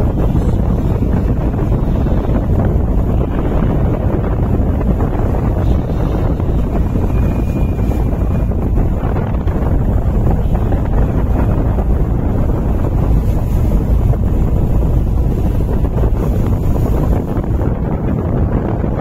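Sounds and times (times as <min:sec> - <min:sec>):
ship rumble: 0:00.0 - 0:19.0
water sounds: 0:00.0 - 0:19.0
wind buffeting microphone: 0:00.0 - 0:19.0.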